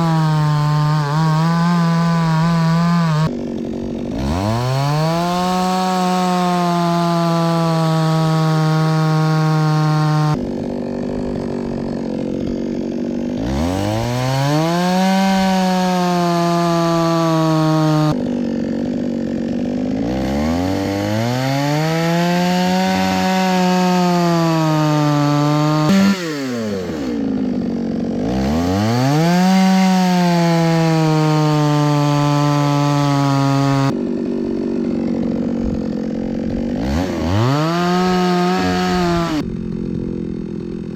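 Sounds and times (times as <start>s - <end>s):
chainsaw cutting logs: 0.0s - 40.9s.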